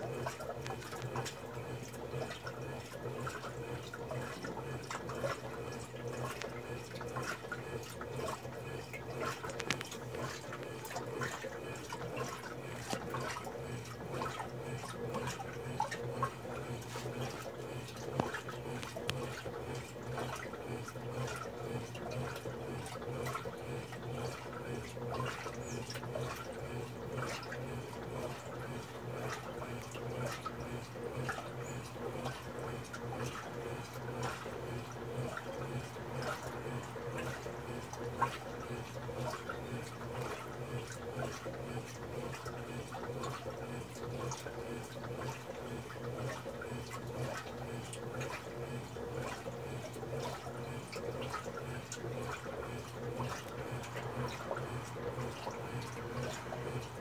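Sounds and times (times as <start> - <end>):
washing machine motor humming: 0.0 - 57.0
water splashing in drum: 0.0 - 57.0.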